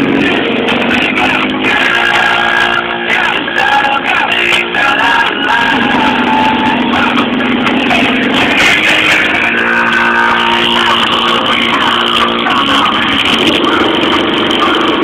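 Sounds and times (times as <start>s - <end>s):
heavy bass notes: 0.0s - 15.0s
loud car stereo music: 0.0s - 15.0s.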